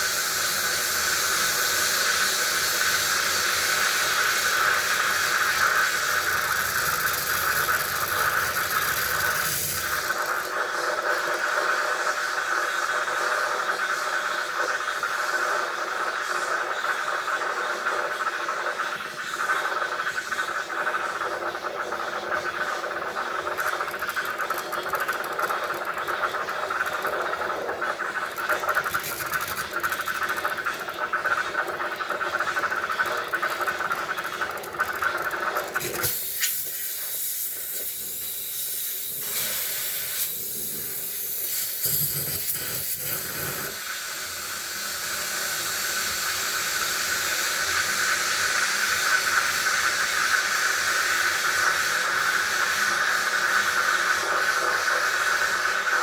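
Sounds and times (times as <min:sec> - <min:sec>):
steady hissing noise: 0:00.0 - 0:56.0.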